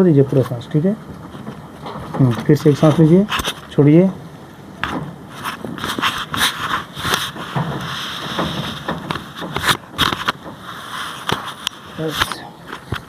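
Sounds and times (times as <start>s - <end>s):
spine joints cracking: 0.3s - 13.0s.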